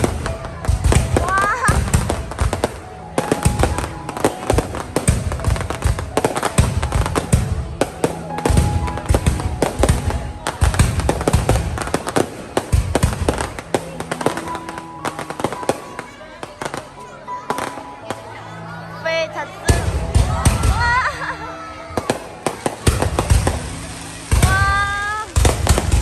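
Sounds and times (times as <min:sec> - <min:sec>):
fireworks bursting with crackle: 0:00.0 - 0:18.4, 0:19.6 - 0:26.0
music: 0:00.0 - 0:26.0.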